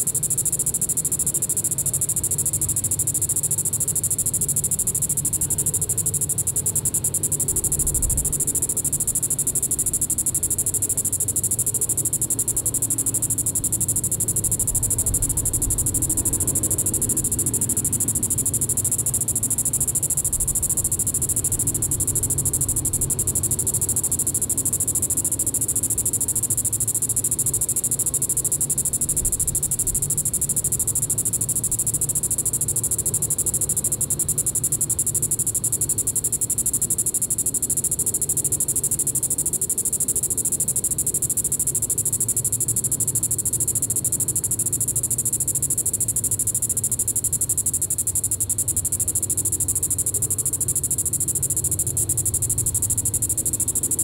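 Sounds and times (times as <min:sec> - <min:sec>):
cicada buzzing: 0:00.0 - 0:54.0.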